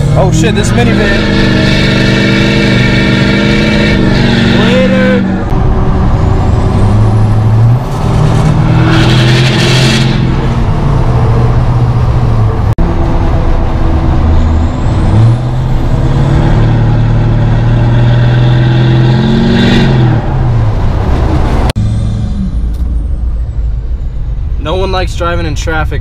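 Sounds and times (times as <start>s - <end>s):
diesel truck engine accelerating: 0.0s - 26.0s.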